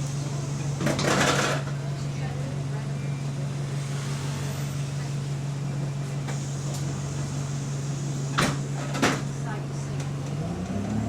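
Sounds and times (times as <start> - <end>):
bus engine idling: 0.0 - 10.8.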